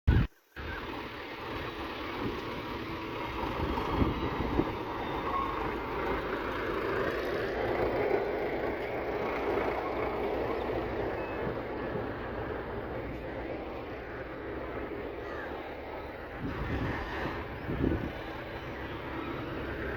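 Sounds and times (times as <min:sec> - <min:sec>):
diesel engines running: 0:00.1 - 0:19.9.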